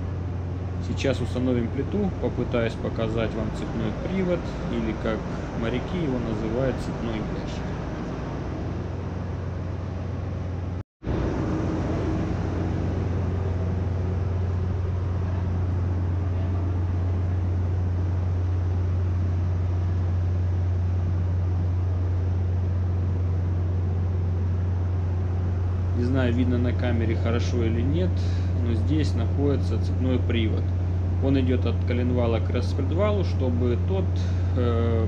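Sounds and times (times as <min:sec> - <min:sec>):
engine-room machinery humming: 0:00.0 - 0:35.0.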